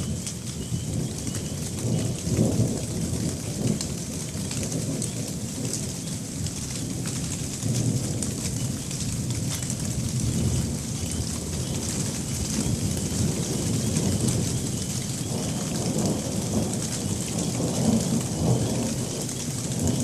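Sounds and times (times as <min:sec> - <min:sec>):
rolling thunder rumbling: 0:00.0 - 0:20.0
steady rain falling: 0:00.0 - 0:20.0.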